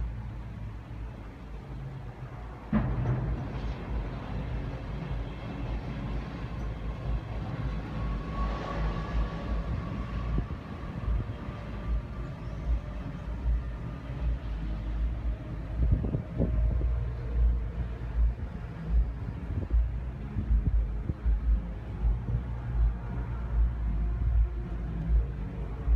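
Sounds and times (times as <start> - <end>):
low steady rumble: 0.0 - 25.9.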